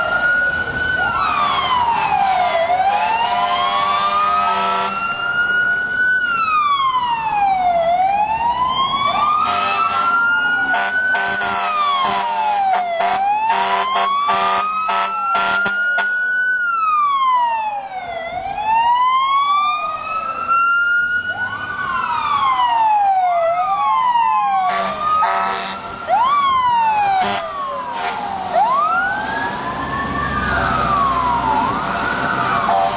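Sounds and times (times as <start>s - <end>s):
fire truck siren wailing: 0.0s - 32.9s.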